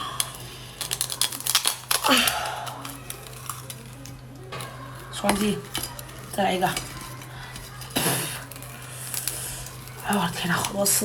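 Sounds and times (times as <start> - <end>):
sharp clicks and cracks: 0.0 - 11.0.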